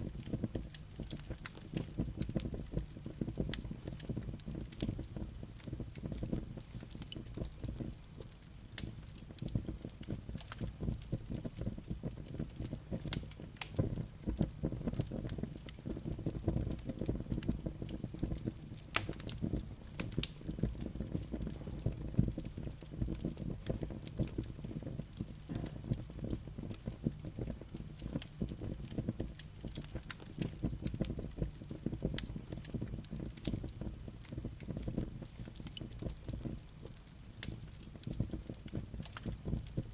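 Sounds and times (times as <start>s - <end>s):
logs and embers crackling: 0.0s - 39.9s
sharp pops of burning wood: 0.2s - 39.9s.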